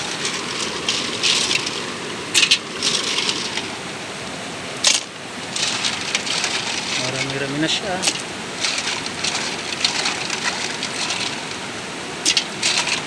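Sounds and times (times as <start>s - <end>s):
snail shells clattering: 0.0s - 3.8s, 4.8s - 13.0s
stream rushing: 0.0s - 13.0s.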